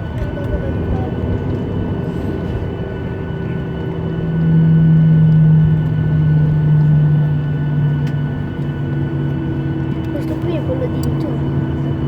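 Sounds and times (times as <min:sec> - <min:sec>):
jet engines rumbling in cabin: 0:00.0 - 0:12.0
loud low drone: 0:00.0 - 0:12.0.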